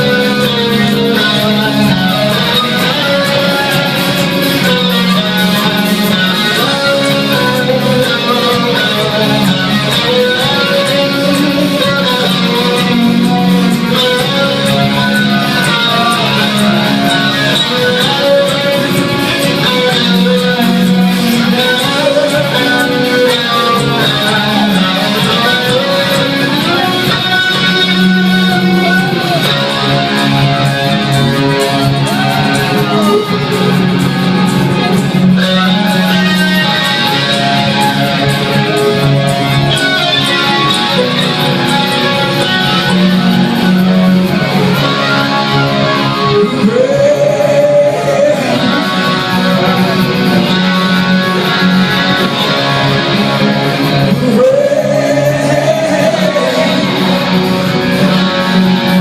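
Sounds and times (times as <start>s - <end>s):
bass line: 0.0s - 59.0s
electric guitars strummed: 0.0s - 59.0s.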